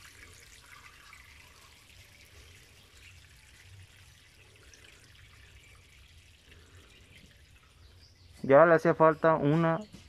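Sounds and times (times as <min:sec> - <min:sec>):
water trickling and dripping: 0:00.0 - 0:10.0.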